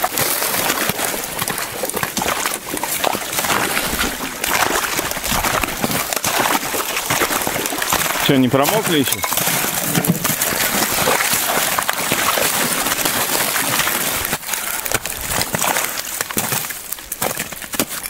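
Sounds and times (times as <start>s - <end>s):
boots sloshing through slush: 0.0s - 18.0s.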